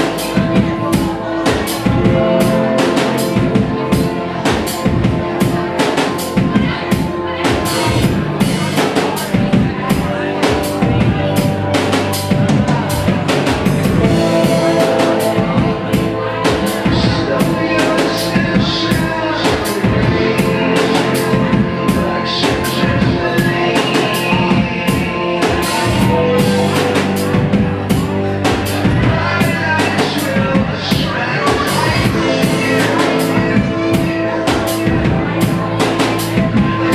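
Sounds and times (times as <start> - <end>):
drum kit beat with rimshots: 0.0 - 36.9
live band music: 0.0 - 36.9.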